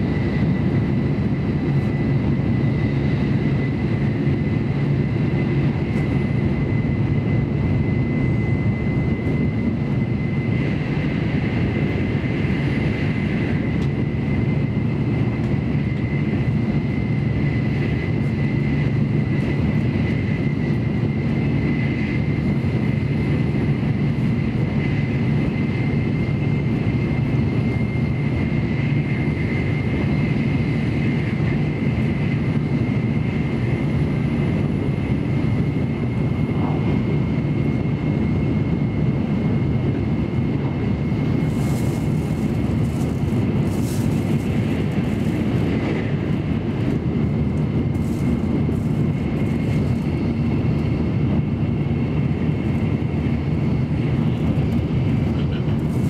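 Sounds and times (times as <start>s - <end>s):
train cabin rumble and rush: 0.0s - 56.0s.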